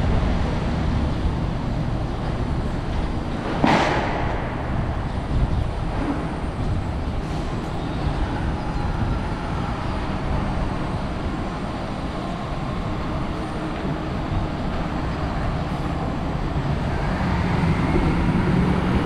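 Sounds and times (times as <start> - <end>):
city street traffic: 0.0 - 19.0
heavy vehicle engines humming: 0.0 - 19.0.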